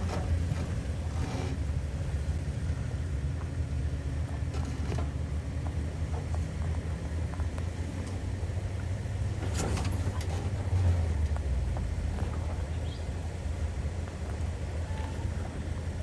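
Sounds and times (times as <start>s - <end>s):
truck engine rumbling: 0.0s - 16.0s
truck knocks and rattles: 0.0s - 16.0s.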